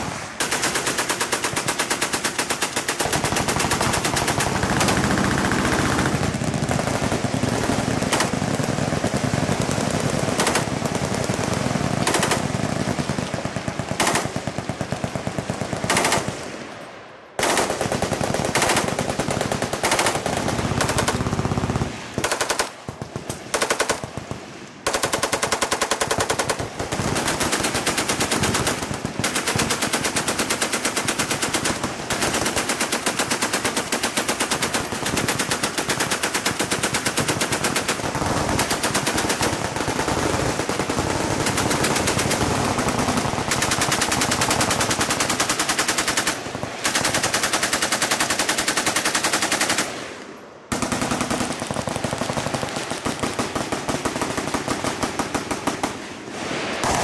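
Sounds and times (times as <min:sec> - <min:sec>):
machine-gun fire: 0:00.0 - 0:16.4, 0:17.4 - 0:50.0, 0:50.7 - 0:57.0.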